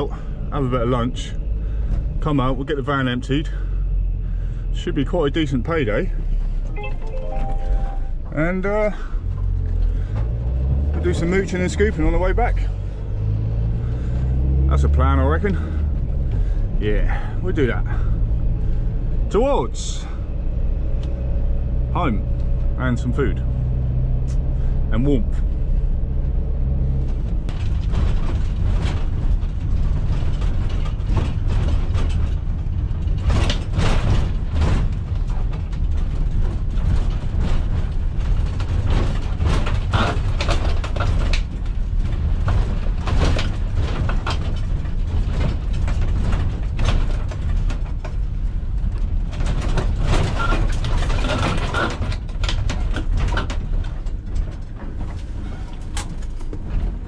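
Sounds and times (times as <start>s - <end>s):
van engine and tyres rumbling: 0.0s - 57.0s.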